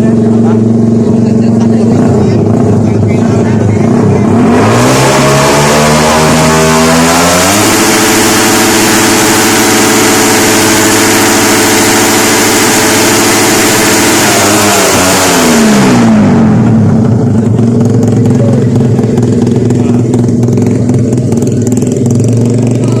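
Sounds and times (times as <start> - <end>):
motorcycle engine revving and idling: 0.0 - 23.0.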